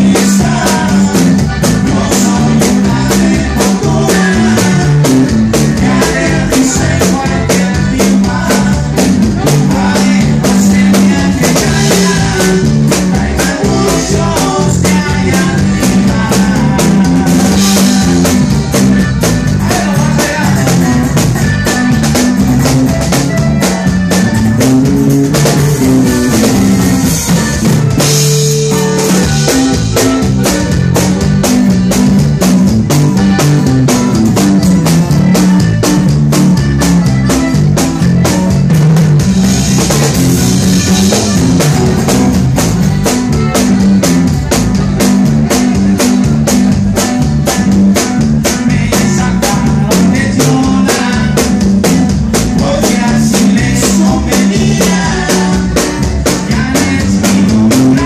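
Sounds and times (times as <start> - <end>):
bass line: 0.0 - 58.0
drum kit beat: 0.0 - 58.0
live band music: 0.0 - 58.0.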